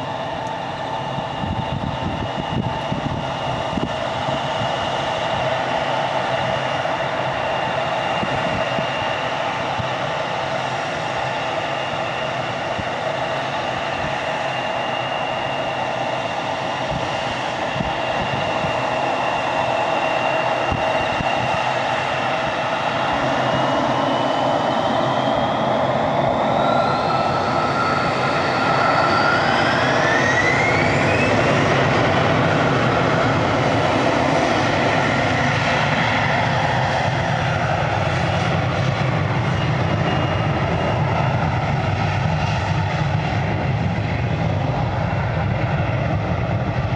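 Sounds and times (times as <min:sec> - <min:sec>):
jet engines spooling up: 0:00.0 - 0:46.9.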